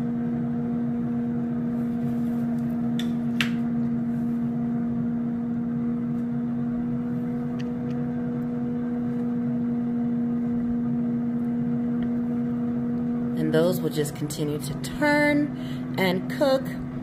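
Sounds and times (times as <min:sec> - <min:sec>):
air fryer fan humming: 0:00.0 - 0:17.0.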